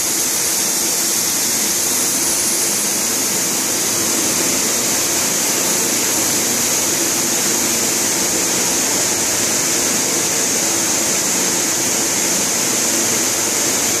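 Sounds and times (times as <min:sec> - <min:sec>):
factory machinery hiss: 0:00.0 - 0:14.0.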